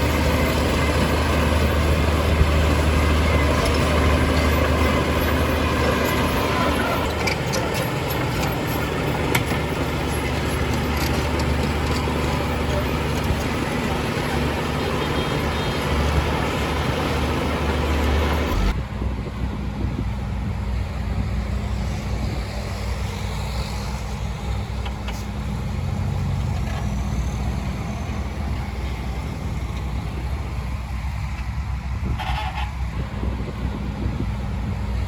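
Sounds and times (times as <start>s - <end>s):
diesel machinery engine running: 0.0s - 35.0s.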